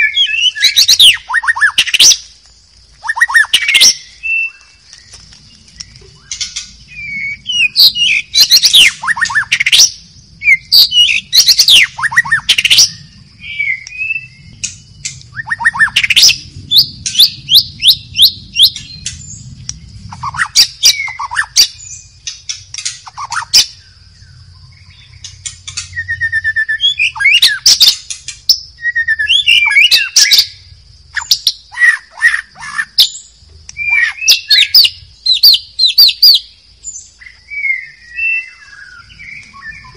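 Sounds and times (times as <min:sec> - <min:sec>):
bird singing whistles and trills: 0:00.0 - 0:02.3, 0:03.0 - 0:39.9
steady high hiss: 0:00.0 - 0:39.9.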